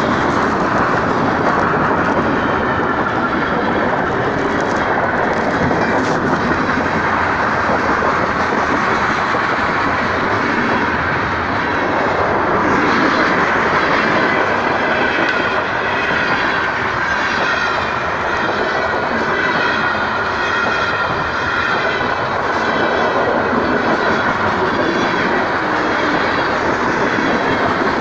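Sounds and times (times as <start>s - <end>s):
train wheels running on rails: 0.0s - 28.0s.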